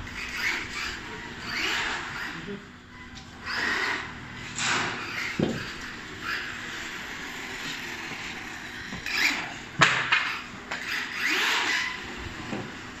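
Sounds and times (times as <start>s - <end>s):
toy truck motor whining: 0.0s - 2.6s, 3.2s - 13.0s.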